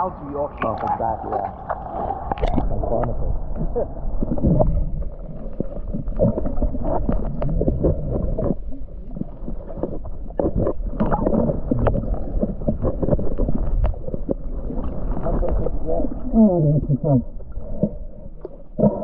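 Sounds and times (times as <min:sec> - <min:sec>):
muffled underwater noise: 0:00.0 - 0:19.0.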